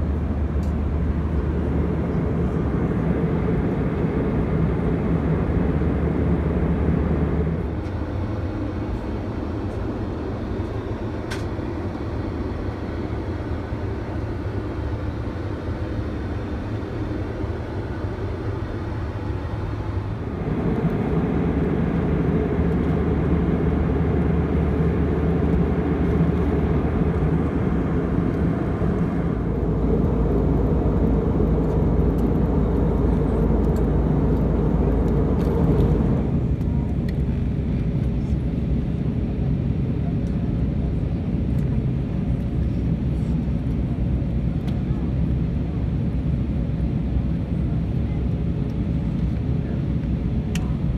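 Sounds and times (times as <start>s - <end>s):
aircraft cabin engine rumble: 0.0s - 50.9s.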